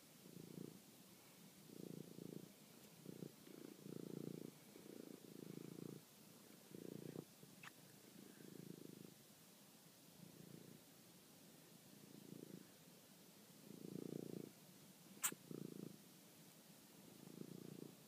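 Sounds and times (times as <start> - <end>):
cat purring: 0.0 - 9.3, 10.1 - 10.9, 11.8 - 13.0, 13.6 - 16.2, 17.0 - 18.0.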